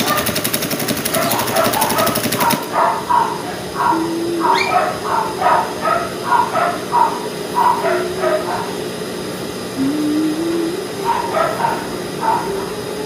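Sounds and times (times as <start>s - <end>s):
dogs barking: 0.0s - 9.0s, 11.0s - 13.0s.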